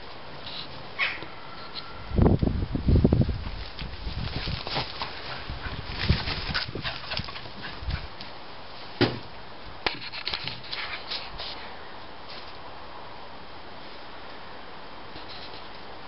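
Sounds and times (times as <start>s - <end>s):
crackles of earth and foliage: 0.0s - 16.0s.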